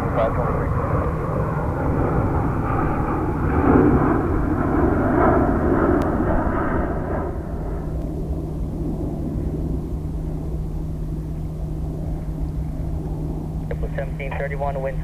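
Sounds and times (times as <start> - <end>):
jet engines at takeoff: 0.0 - 15.0.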